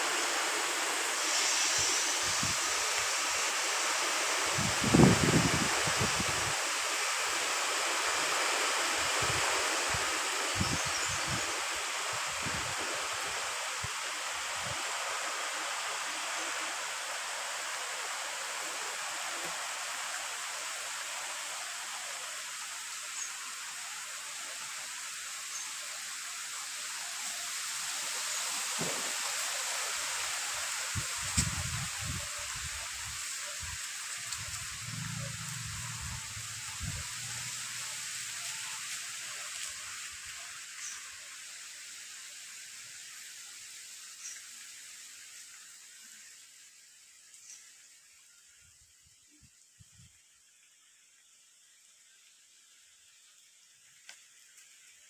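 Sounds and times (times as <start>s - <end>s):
heavy rain on trees and road: 0.0s - 48.6s.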